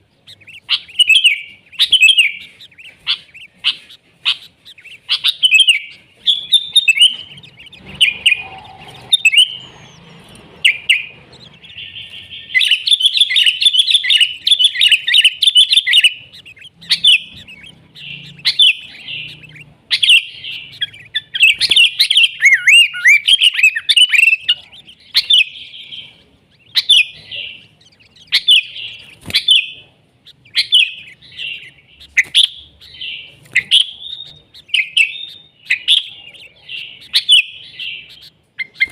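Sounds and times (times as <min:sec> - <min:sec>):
bulbuls singing: 0:00.0 - 0:38.9.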